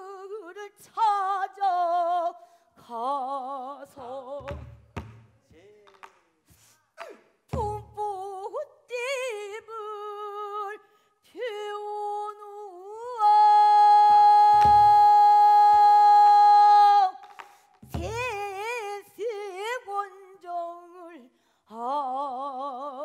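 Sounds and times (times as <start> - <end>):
woman singing with vibrato: 0.0 - 4.8, 7.5 - 23.0.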